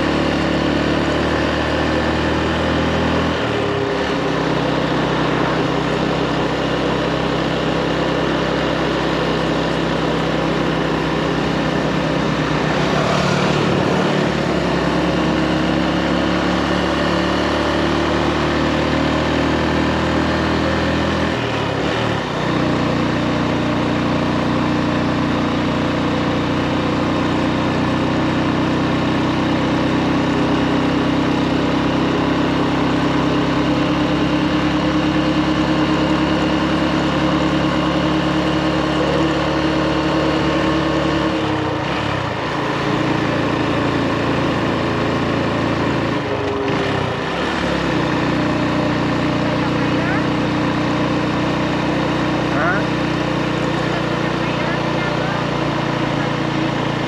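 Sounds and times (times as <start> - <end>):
motorbike engine running: 0.0 - 57.0.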